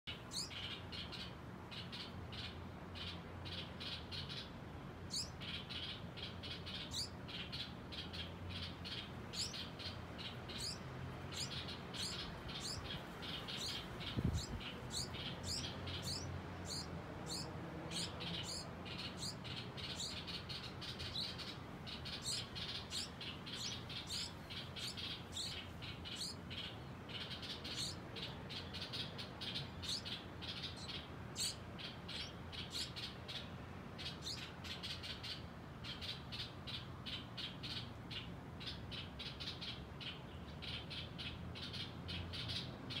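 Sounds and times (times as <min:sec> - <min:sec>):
nestlings begging chirps: 0:00.1 - 0:43.0.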